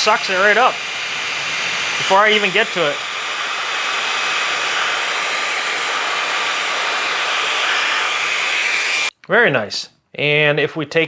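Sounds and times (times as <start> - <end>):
handheld vacuum fan whooshing: 0.0 - 9.1.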